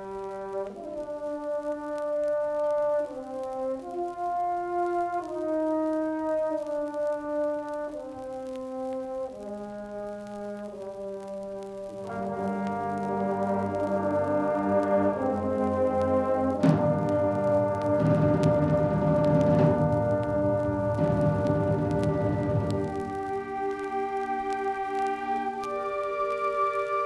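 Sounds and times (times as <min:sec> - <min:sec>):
band playing slow brass chords: 0:00.0 - 0:27.0.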